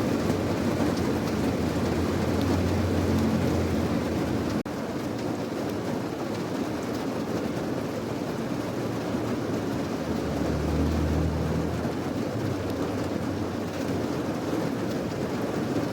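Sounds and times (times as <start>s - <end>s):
heavy rain: 0.0s - 15.9s.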